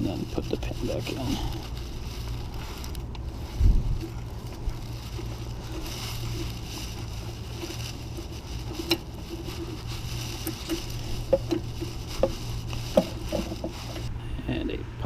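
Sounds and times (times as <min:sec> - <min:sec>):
low hum: 0:01.3 - 0:15.0.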